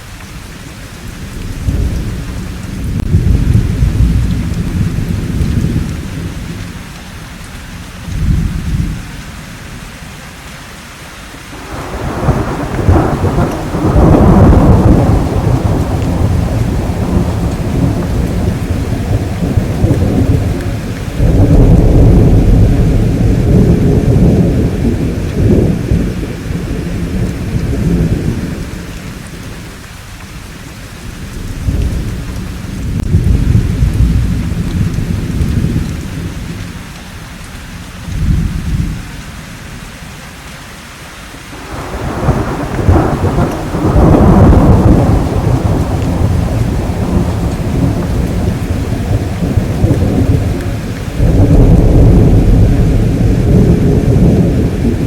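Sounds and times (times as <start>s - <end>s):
rolling thunder rumbles: 0.0s - 9.8s, 11.6s - 39.9s, 41.6s - 55.0s
steady rain: 0.0s - 55.0s.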